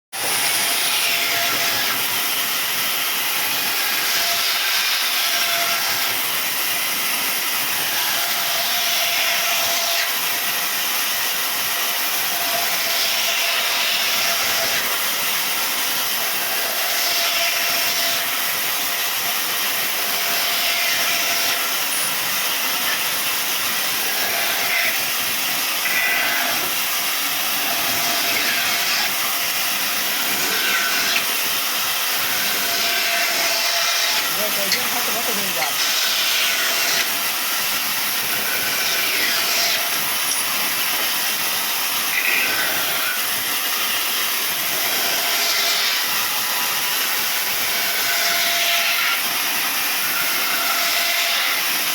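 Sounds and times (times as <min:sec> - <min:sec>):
power saw cutting wood: 0:00.1 - 0:51.9.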